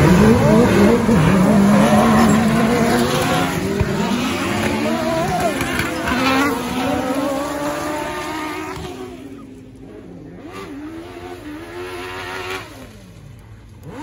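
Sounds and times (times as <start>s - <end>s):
racing buggy engines revving: 0.0s - 14.0s.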